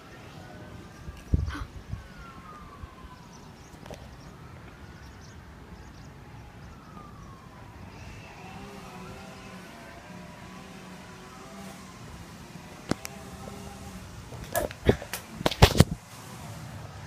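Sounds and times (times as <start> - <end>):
distant siren wailing: 0.0 - 15.8.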